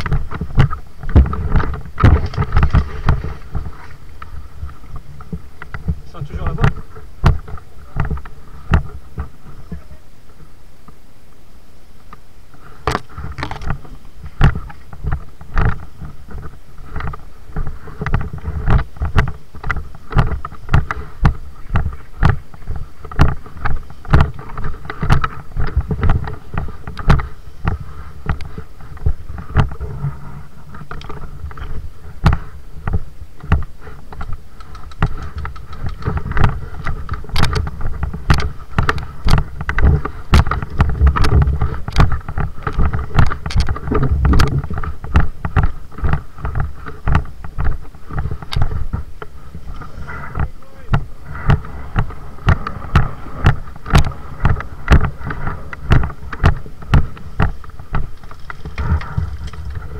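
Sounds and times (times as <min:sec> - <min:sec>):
sharp clicks and thuds: 0:00.0 - 0:09.9, 0:12.0 - 0:59.9.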